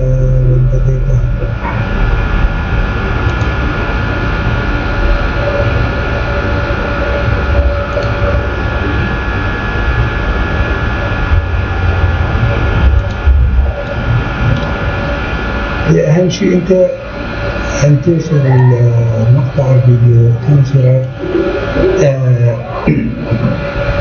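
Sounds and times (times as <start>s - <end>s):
faint whining tones: 0.0s - 24.0s
machine rushing noise: 0.0s - 24.0s.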